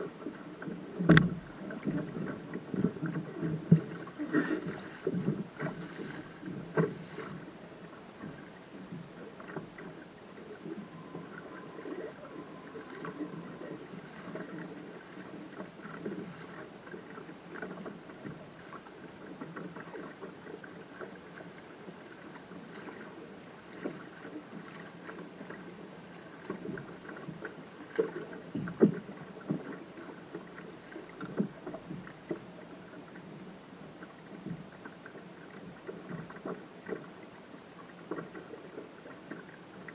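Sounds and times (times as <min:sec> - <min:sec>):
water slapping against a boat hull: 0:00.0 - 0:39.9.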